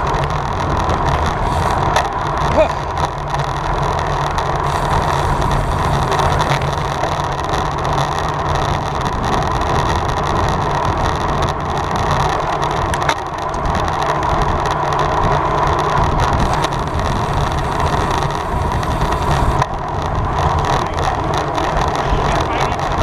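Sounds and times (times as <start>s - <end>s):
bicycle road noise: 0.0s - 23.0s
low rumble: 0.0s - 23.0s
wind rush: 0.0s - 23.0s.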